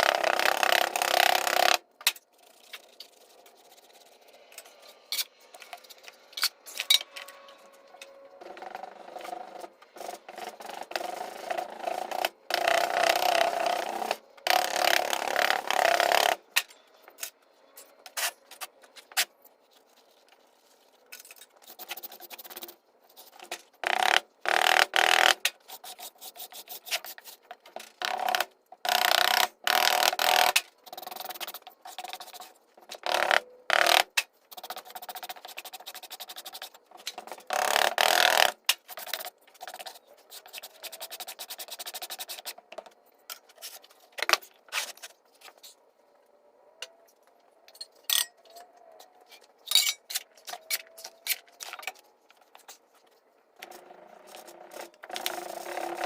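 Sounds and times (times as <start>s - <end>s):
scraping and rubbing: 0.0s - 28.5s, 29.8s - 45.9s, 48.1s - 56.0s.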